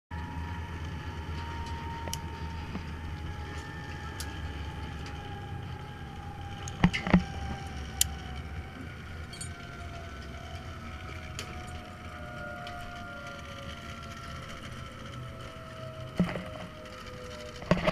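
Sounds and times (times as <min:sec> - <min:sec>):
faint high whine falling in pitch: 0:00.1 - 0:17.9
wind rumble on microphone: 0:00.1 - 0:17.9.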